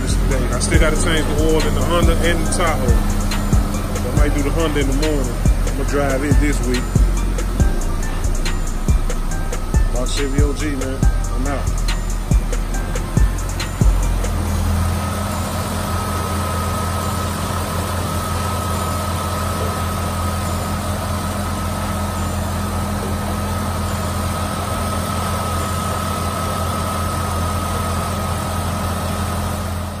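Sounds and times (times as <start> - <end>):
thin high whine: 0.0 - 29.8
car engine idling: 0.0 - 30.0.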